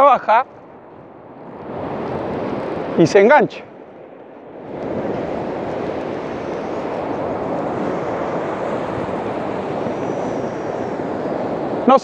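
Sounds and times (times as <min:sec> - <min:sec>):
wind: 0:00.0 - 0:12.0
surf breaking: 0:01.4 - 0:12.0.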